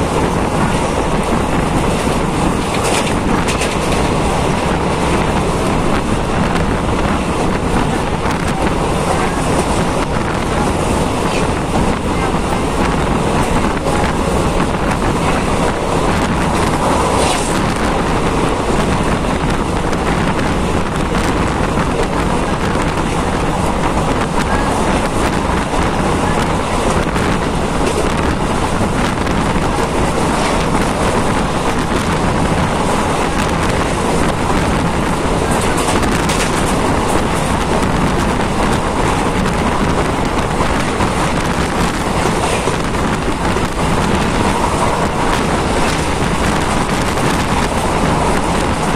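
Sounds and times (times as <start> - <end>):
vehicle travelling on road: 0.0 - 48.9
wind rushing over microphone: 0.0 - 48.9.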